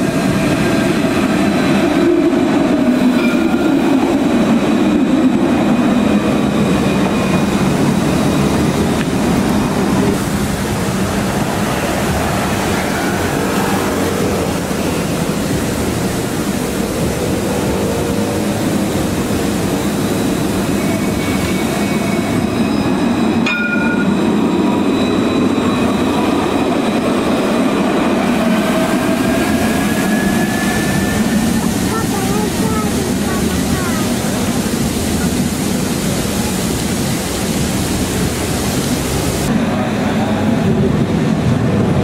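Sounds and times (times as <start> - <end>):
tram rolling rumble: 0.0 - 42.0.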